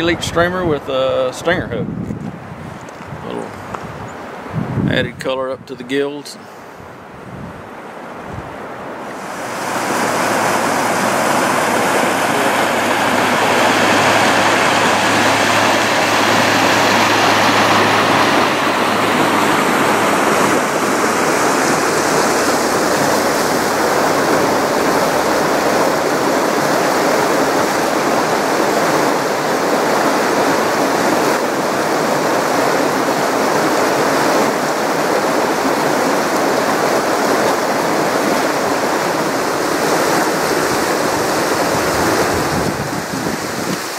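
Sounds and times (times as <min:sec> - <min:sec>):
creek water rushing over rocks: 0:08.0 - 0:43.9.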